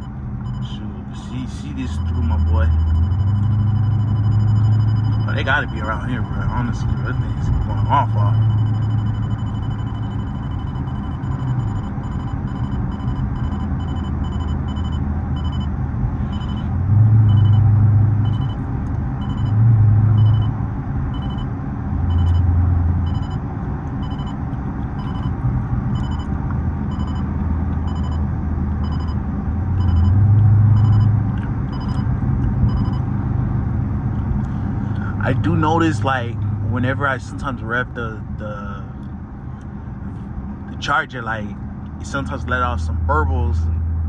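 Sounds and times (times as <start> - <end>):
car exhaust droning: 0.0 - 44.0.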